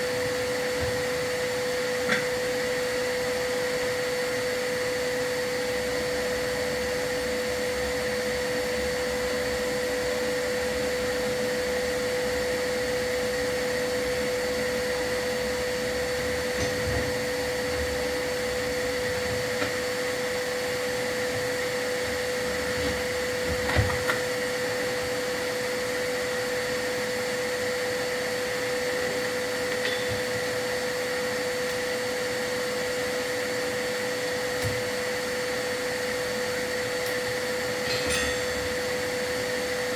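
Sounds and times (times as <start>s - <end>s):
vacuum whining: 0.0s - 39.9s.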